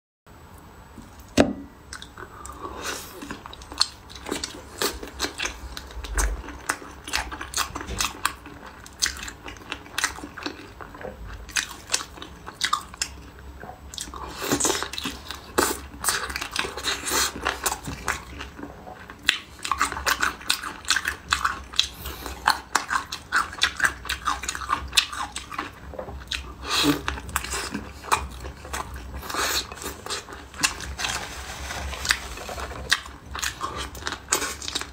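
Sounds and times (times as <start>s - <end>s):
person chewing crayfish: 1.8s - 34.9s.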